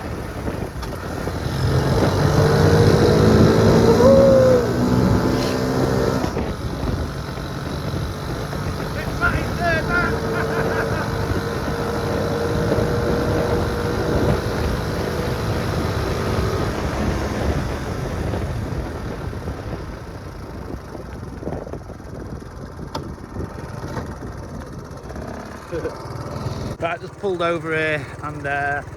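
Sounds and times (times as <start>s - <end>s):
wind on microphone: 0.0s - 25.6s
motorcycle engine running: 0.0s - 28.9s.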